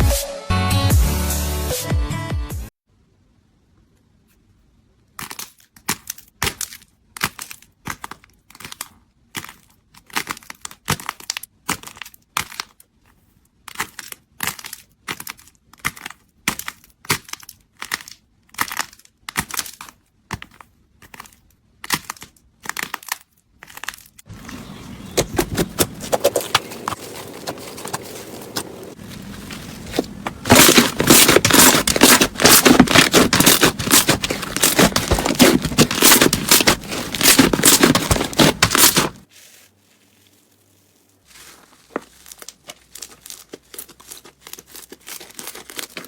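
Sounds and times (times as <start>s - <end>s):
slime crackling and squishing: 5.2s - 12.9s, 13.6s - 24.3s, 25.2s - 46.0s.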